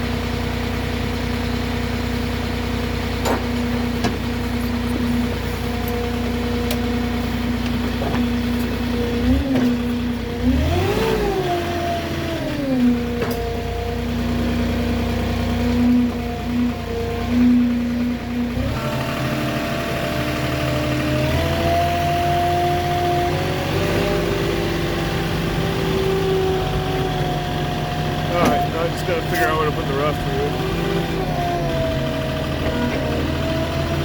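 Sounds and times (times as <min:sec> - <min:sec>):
forklift engine humming and revving: 0:00.0 - 0:34.0.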